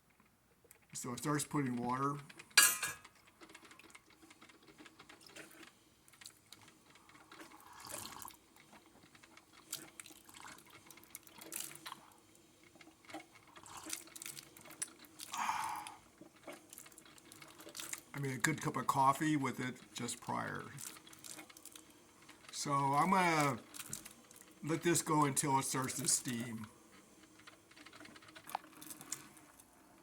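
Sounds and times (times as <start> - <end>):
faint steady hum: 0.0 - 30.0
coffee maker dripping and sputtering: 0.7 - 30.0.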